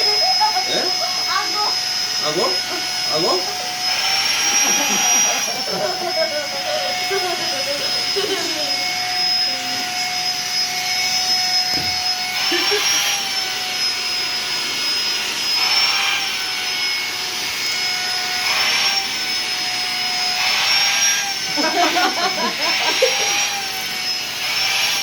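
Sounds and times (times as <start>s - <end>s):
vacuum cleaner motor whine: 0.0s - 25.0s.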